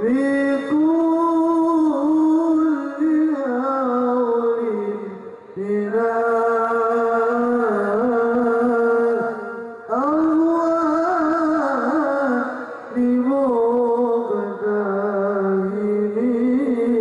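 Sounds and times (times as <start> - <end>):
men singing devotional song: 0.0 - 17.0.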